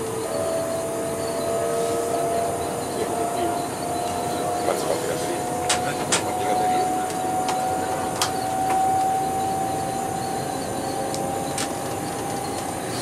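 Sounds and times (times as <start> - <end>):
rising motor whine: 0.0 - 13.0
train running noise: 0.0 - 13.0.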